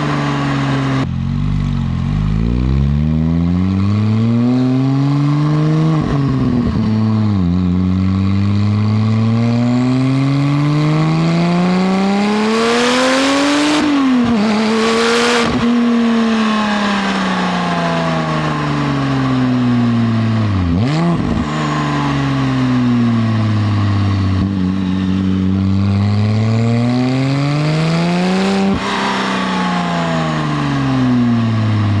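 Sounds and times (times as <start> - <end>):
sports car engine revving: 0.0 - 32.0.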